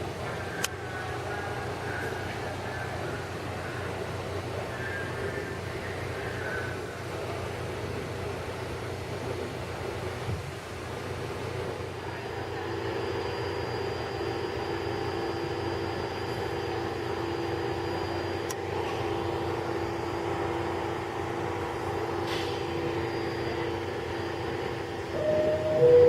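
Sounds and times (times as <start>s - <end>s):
subway cars humming: 0.0s - 26.0s.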